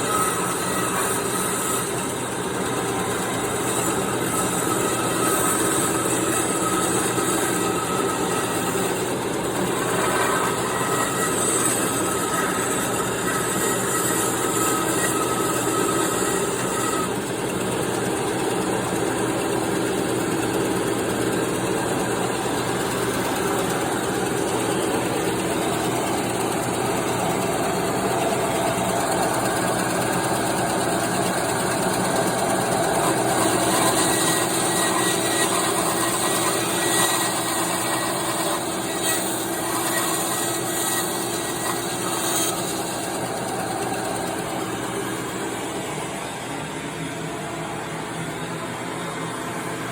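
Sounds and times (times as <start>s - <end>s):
bandsaw running: 0.0s - 46.4s.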